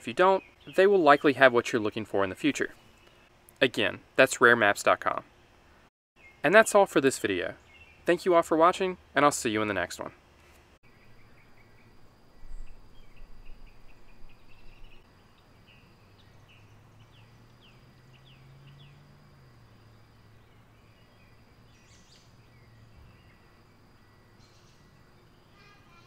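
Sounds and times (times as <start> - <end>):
small birds chirping: 0.1 - 3.4, 6.2 - 8.3, 10.4 - 26.0.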